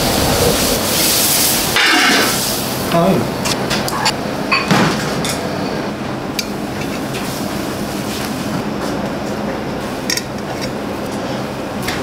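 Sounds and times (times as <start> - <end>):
rushing kitchen background noise: 0.0 - 12.0.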